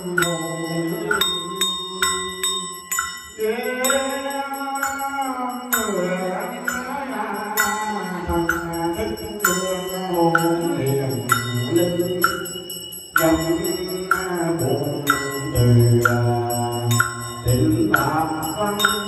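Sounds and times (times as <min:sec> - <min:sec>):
person chanting: 0:00.0 - 0:02.8, 0:03.4 - 0:19.0.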